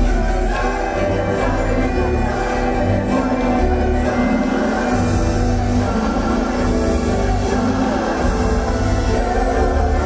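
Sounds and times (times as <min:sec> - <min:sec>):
loud music with deep bass: 0:00.0 - 0:10.0.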